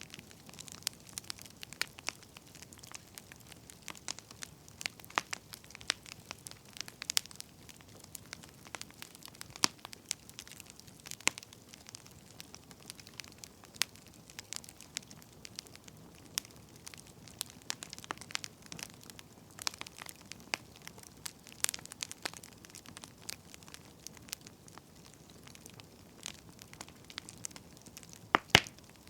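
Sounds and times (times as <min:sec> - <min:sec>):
soft steady hiss: 0:00.0 - 0:29.0
wood fire crackling: 0:00.0 - 0:29.0.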